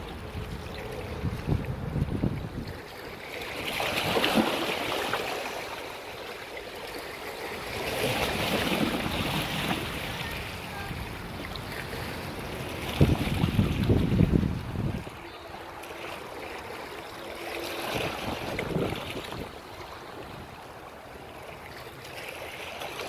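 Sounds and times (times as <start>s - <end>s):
sea waves washing ashore: 0.0s - 23.0s.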